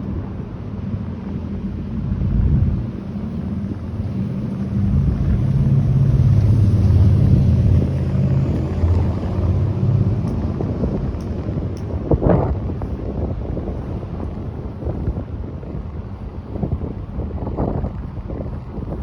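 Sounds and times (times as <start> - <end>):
storm wind on microphone: 0.0 - 19.0.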